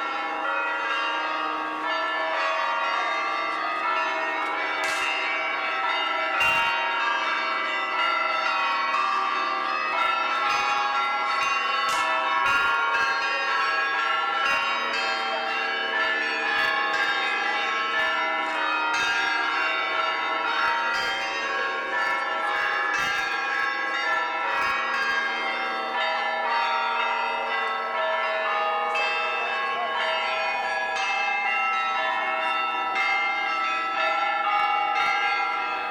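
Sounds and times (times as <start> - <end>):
church bells pealing: 0.0 - 35.9.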